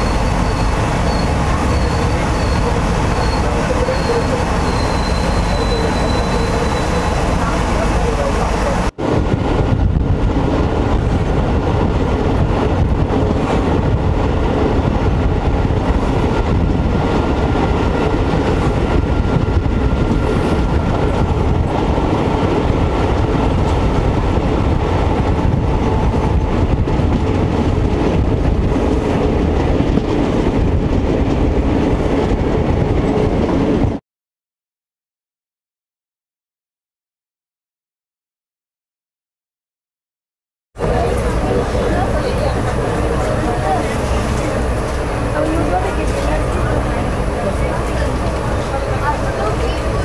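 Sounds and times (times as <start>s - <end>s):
wheels rumbling on rails: 0.0s - 34.0s, 40.8s - 50.0s.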